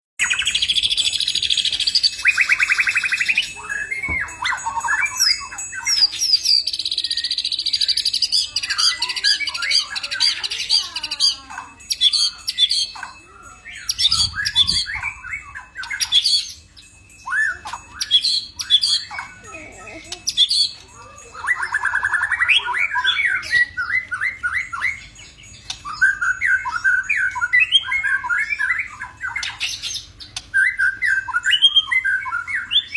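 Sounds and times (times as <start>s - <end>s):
bird singing trills and whistles: 0.2s - 32.9s.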